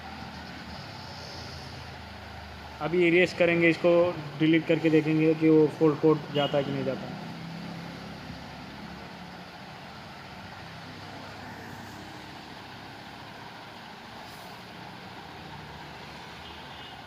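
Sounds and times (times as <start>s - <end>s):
vehicle hum: 0.0s - 17.0s.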